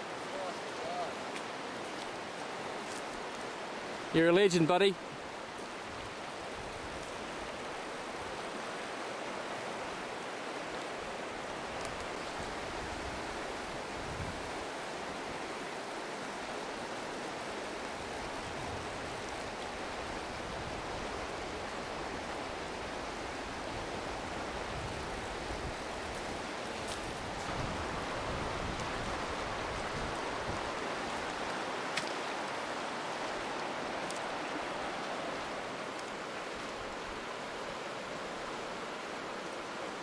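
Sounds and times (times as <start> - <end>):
river water rushing over stones: 0.0 - 40.0.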